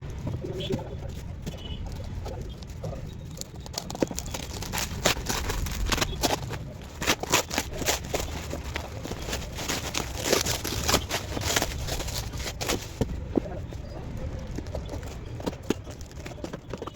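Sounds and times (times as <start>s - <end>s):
packaging rustling: 0.6s - 16.9s.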